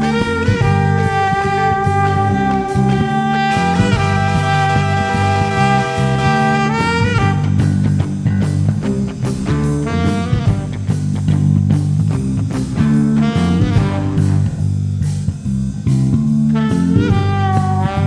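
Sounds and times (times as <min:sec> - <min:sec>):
blues-rock band playing: 0:00.0 - 0:18.0.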